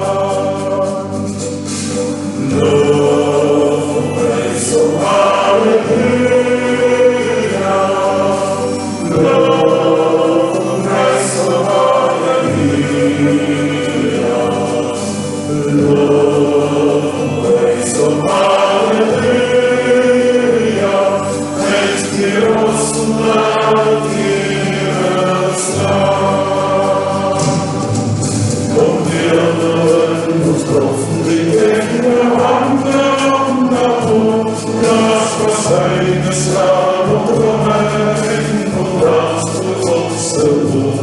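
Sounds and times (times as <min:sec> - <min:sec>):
choir singing worship song: 0:00.0 - 0:41.0
instrumental accompaniment: 0:00.0 - 0:41.0
deep bass notes: 0:02.4 - 0:39.4.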